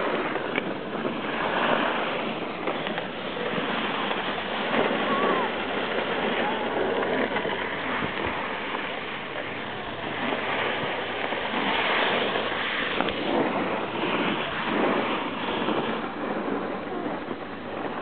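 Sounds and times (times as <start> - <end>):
skate blades scraping ice: 0.0 - 18.0.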